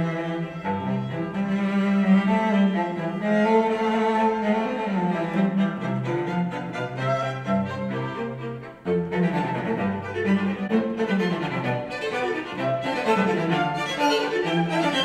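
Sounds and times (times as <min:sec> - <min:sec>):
classical string music: 0:00.0 - 0:15.0.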